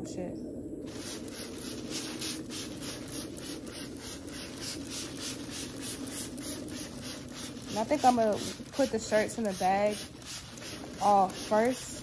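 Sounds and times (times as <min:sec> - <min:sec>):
plastic bag rustling and crinkling: 0:00.8 - 0:12.0.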